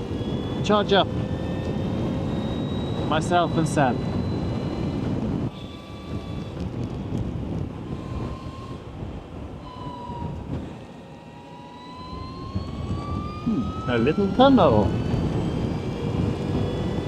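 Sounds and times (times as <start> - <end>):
electric motor whine: 0.0 - 17.0
wind rushing over microphone: 0.0 - 17.0.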